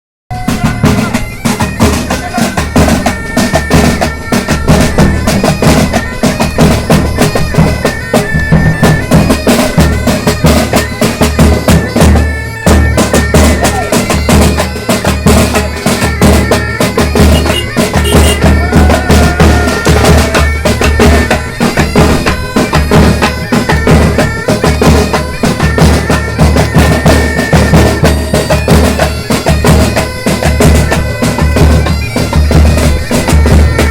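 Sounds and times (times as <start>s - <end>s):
heavy drums beating: 0.3s - 33.9s
reedy pipe melody: 0.3s - 33.9s.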